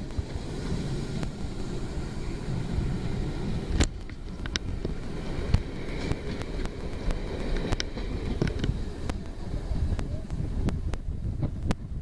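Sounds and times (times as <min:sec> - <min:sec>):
train rumbling past: 0:00.0 - 0:12.0
wind buffeting microphone: 0:00.0 - 0:12.0.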